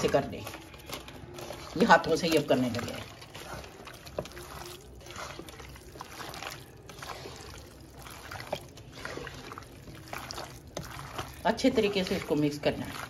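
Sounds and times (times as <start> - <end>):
hand squelching raw chicken: 0.0 - 13.0.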